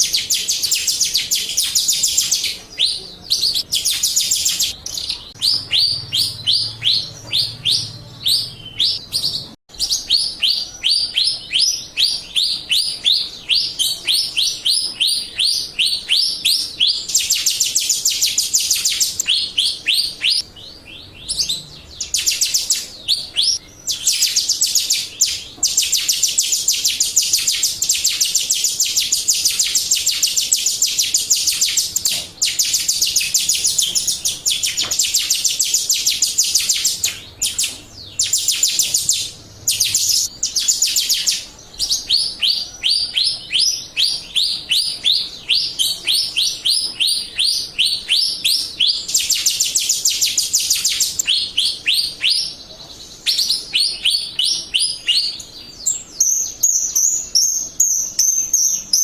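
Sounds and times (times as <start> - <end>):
starling chirping and trilling: 0.0 - 59.0.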